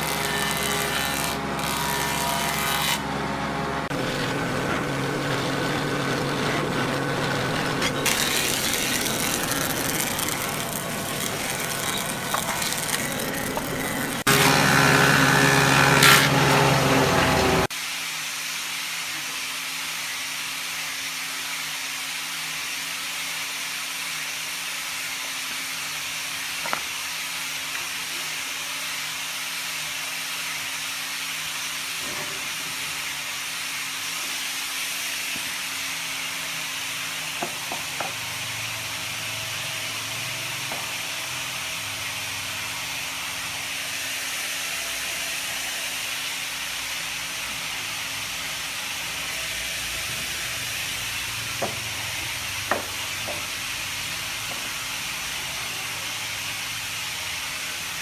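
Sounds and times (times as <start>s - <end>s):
motor hum and hiss: 0.0s - 58.0s
power tool cutting wood: 0.0s - 58.0s.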